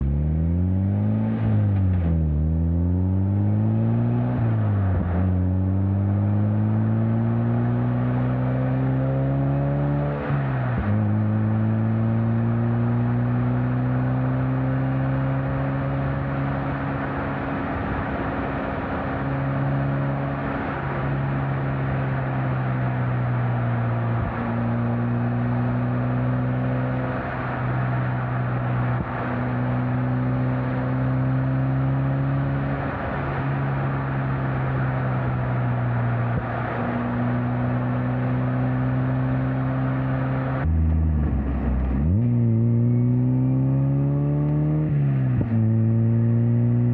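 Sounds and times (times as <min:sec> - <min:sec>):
car engine and exhaust: 0:00.0 - 0:46.9.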